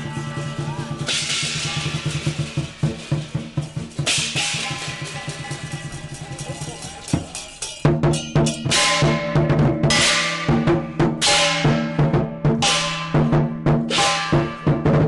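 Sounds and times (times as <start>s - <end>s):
hand cymbals clashing: 0.0s - 15.0s
lion dance drum beating: 0.0s - 15.0s.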